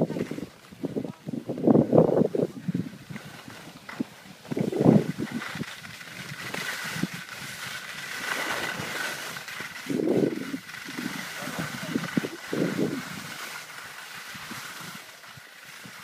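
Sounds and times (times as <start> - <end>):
skis scraping over snow: 0.0 - 16.0
wind buffeting microphone: 0.0 - 16.0.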